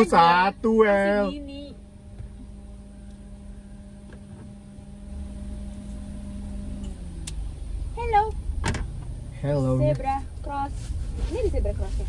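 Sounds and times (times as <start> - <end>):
car interior hum: 0.0 - 12.0.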